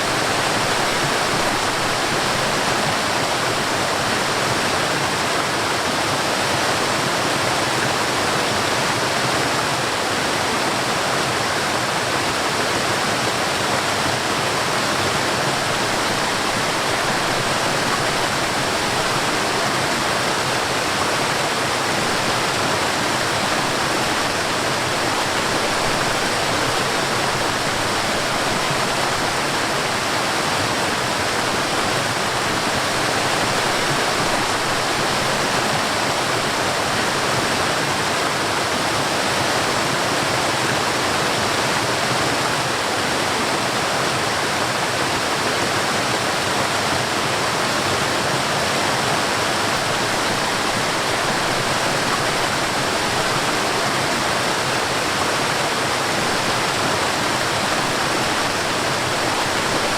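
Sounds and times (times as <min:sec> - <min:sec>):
stream and waterfalls rushing: 0:00.0 - 0:59.9.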